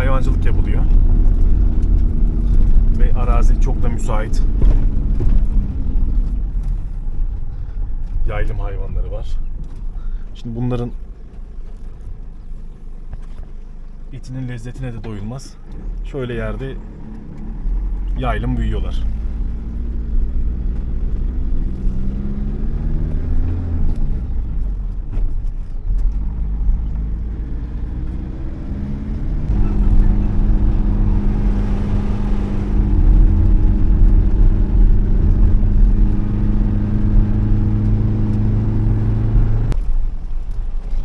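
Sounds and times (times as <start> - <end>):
car engine: 0.0 - 41.0
road noise inside car: 0.0 - 41.0.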